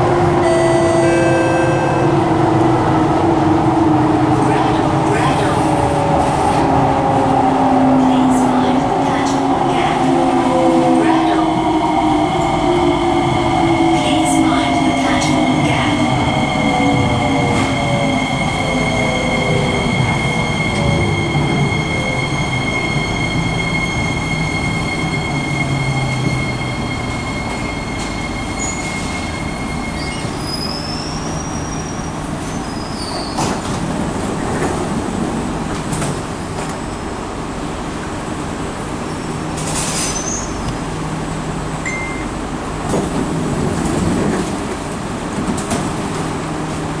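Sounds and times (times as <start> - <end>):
train car rumble: 0.0 - 47.0.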